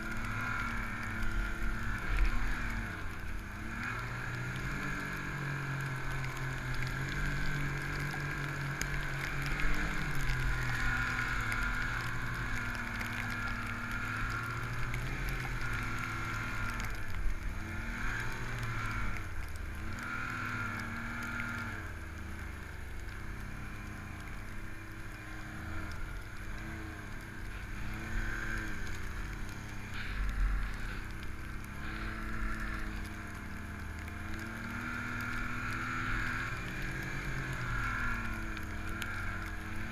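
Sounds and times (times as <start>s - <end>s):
snowmobile engine revving: 0.0s - 16.9s, 17.5s - 19.2s, 19.8s - 21.8s, 24.8s - 39.9s.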